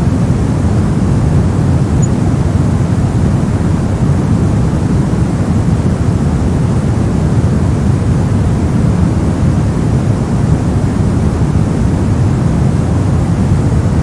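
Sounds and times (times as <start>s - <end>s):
deep white noise rush: 0.0s - 14.0s.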